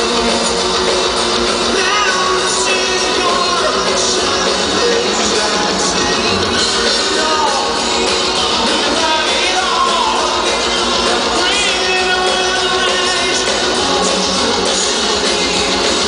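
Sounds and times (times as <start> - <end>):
live metal band playing: 0.0 - 16.0
man singing: 0.0 - 16.0.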